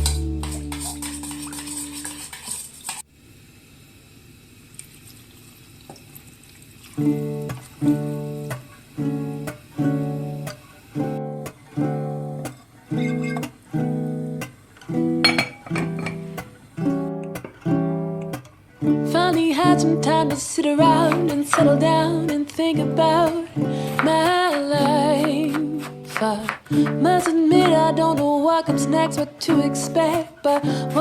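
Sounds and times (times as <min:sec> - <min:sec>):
acoustic guitar strumming chords: 0:00.0 - 0:01.4, 0:07.0 - 0:31.0.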